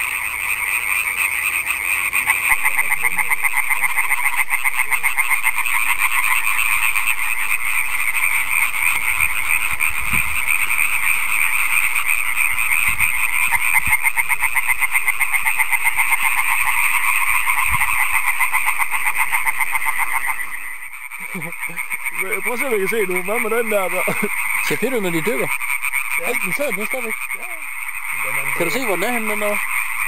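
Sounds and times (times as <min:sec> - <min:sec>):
tree frogs chorus: 0:00.0 - 0:30.0.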